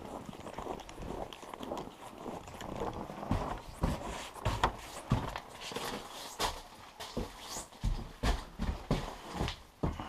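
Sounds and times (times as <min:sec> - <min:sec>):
footsteps on packed snow: 0:00.0 - 0:10.0.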